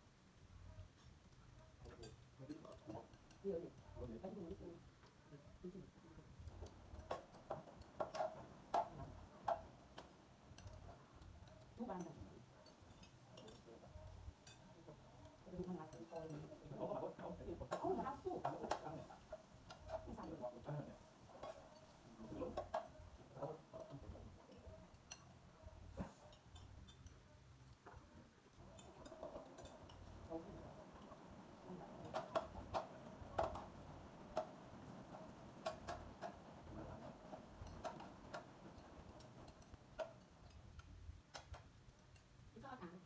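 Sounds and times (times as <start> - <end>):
chopsticks clinking on ceramic bowls: 1.6 - 4.6, 6.6 - 34.8, 35.6 - 42.4.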